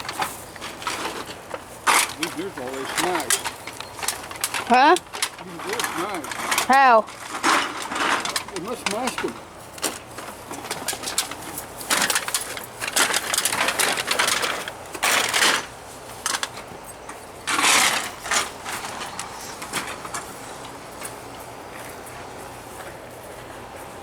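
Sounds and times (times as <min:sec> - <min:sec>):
cans and junk clattering: 0:00.0 - 0:20.4
rustling: 0:00.0 - 0:24.0.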